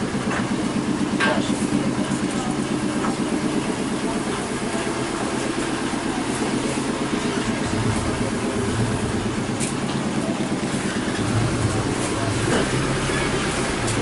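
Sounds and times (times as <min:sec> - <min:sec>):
engine running with low pulsing: 0:00.0 - 0:14.0
faint voices: 0:00.8 - 0:14.0.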